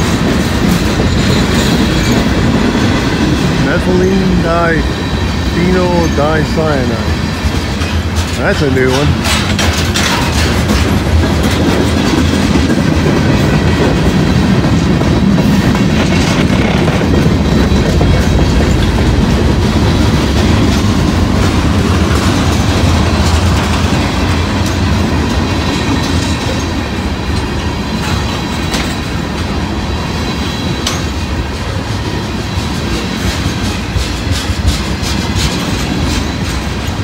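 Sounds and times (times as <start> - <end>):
clickety-clack over rail joints: 0.0 - 37.0
freight train wheels rumbling: 0.0 - 37.0.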